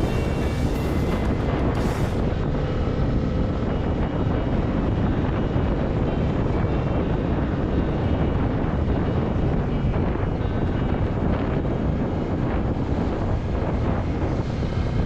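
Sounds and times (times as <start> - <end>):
motorcycle engine drone: 0.0 - 15.0
wind rushing over microphone: 0.0 - 15.0.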